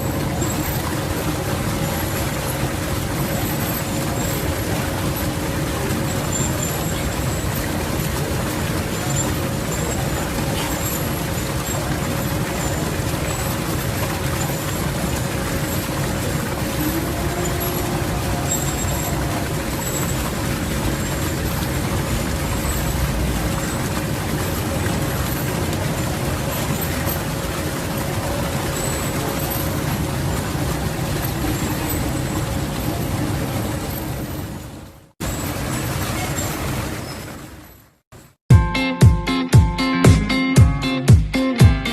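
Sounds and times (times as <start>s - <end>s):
waterfall roaring: 0.0s - 38.3s.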